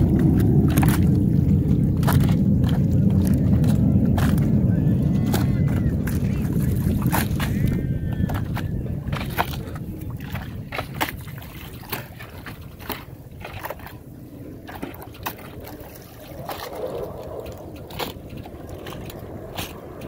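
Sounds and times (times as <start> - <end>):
water lapping against boat hull: 0.0 - 20.0.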